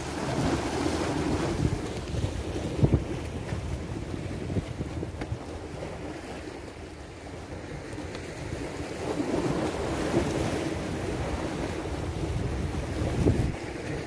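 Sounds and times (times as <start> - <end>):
small waves washing on shore: 0.0 - 14.0
wind buffeting microphone: 0.0 - 14.0.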